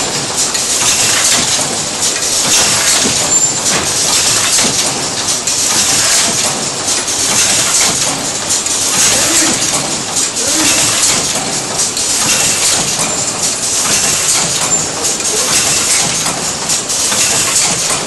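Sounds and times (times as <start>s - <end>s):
packaging machine clatter: 0.0s - 18.0s.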